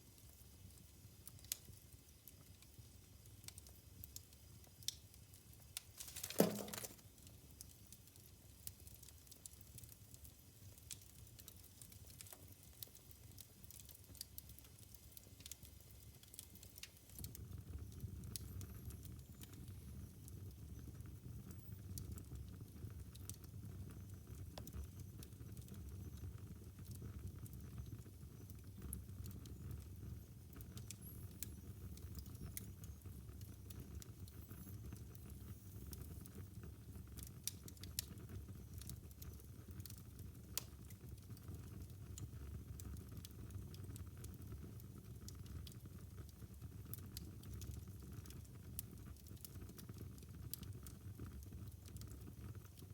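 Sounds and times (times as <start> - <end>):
wood fire crackling and popping: 0.2 - 52.9.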